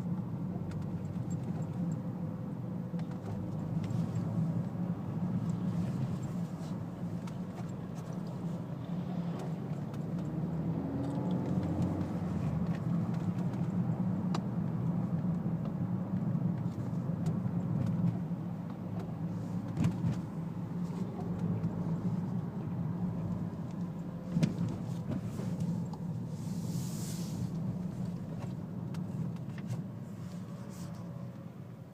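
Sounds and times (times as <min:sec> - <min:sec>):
car engine and road hum: 0:00.0 - 0:31.9.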